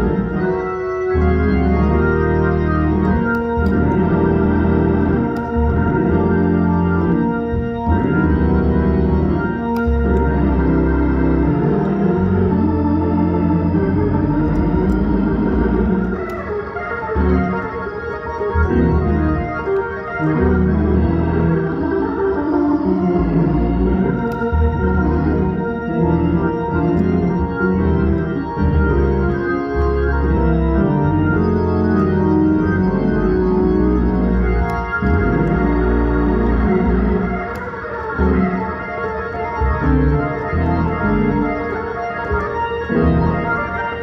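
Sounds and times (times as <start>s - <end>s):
organ chords: 0.0s - 44.0s.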